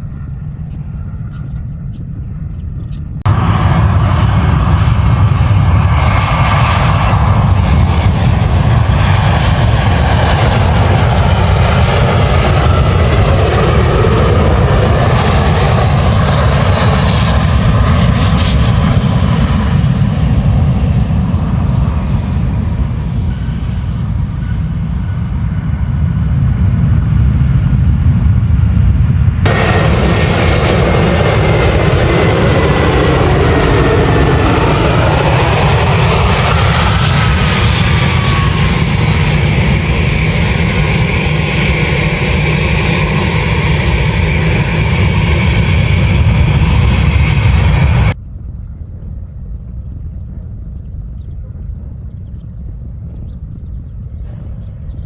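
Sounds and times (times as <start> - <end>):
airliner engines rumbling: 0.0 - 55.0.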